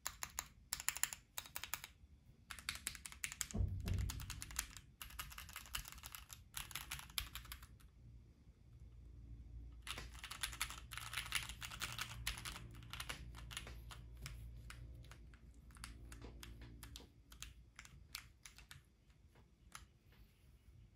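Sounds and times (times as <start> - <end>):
mechanical keyboard typing: 0.0 - 7.9, 9.8 - 19.0.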